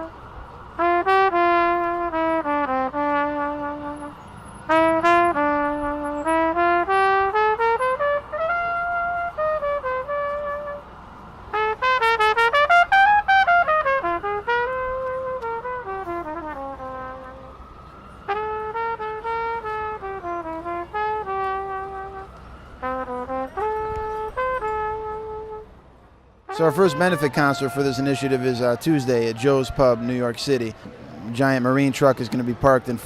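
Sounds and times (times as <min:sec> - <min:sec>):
solo trumpet jazz melody: 0:00.0 - 0:25.8, 0:26.5 - 0:30.5.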